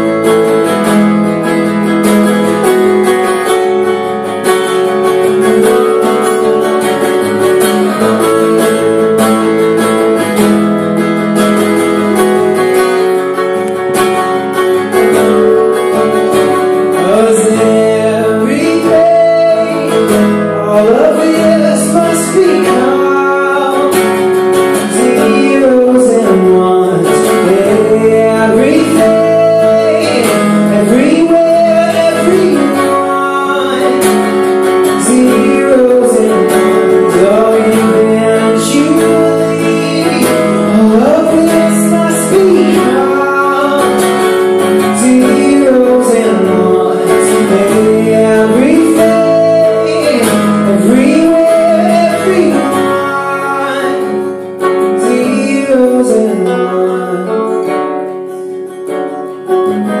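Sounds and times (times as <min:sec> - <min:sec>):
acoustic guitar strumming: 0:00.0 - 1:00.0
man singing: 0:00.0 - 1:00.0.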